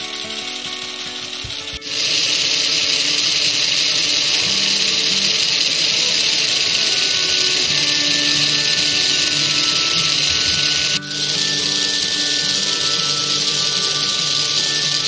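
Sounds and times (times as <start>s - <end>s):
gears clicking: 0.0s - 15.0s
toy motor whirring: 0.0s - 15.0s.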